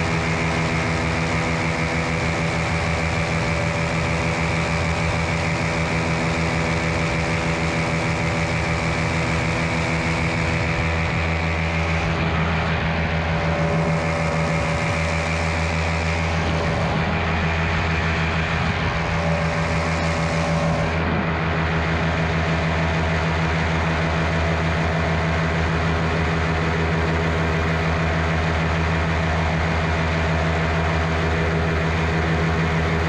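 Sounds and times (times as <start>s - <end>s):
paramotor engine and propeller: 0.0s - 33.0s.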